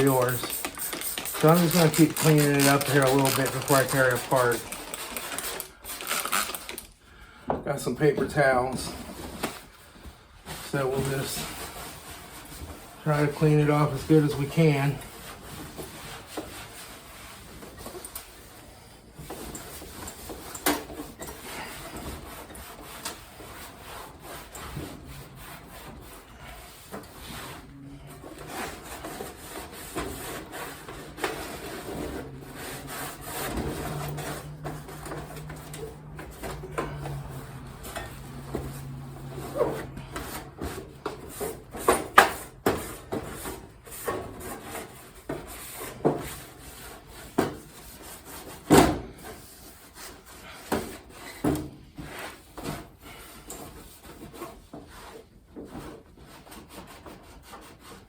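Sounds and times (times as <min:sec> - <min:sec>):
paper towels wiping heater: 0:00.0 - 0:06.8, 0:08.0 - 0:51.4.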